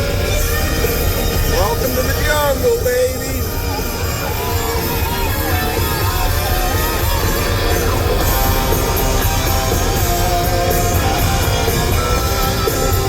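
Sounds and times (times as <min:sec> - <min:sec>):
hard rock music with electric guitar: 0:00.0 - 0:13.0.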